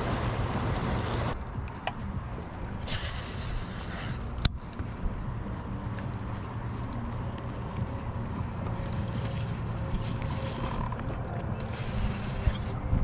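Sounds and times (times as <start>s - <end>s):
boat motor droning: 0.0s - 13.0s
water noise: 0.0s - 13.0s
wind: 0.0s - 13.0s.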